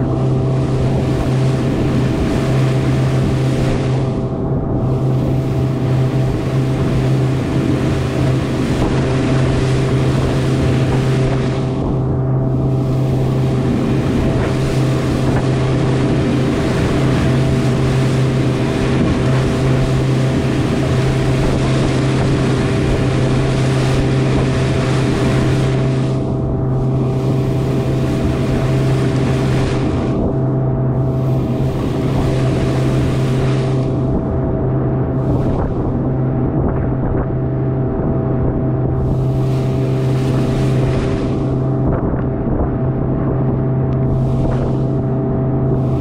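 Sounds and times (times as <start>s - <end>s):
motorboat engine hum: 0.0s - 46.0s
wind on microphone: 0.0s - 46.0s.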